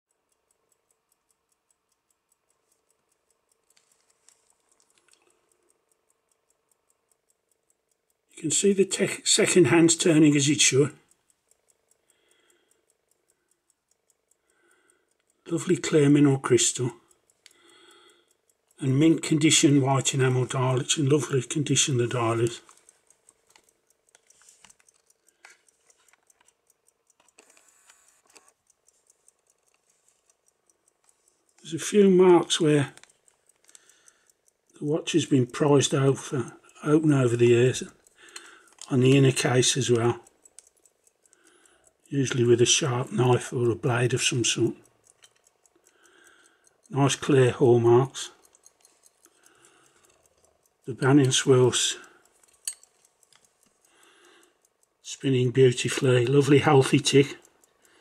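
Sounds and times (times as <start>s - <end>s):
pocket watch ticking: 0.1s - 58.0s.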